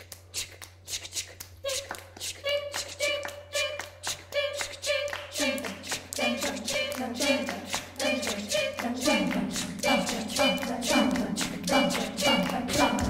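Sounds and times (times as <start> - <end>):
rhythmic clapping: 0.0 - 13.0
choir singing a cappella: 1.6 - 13.0.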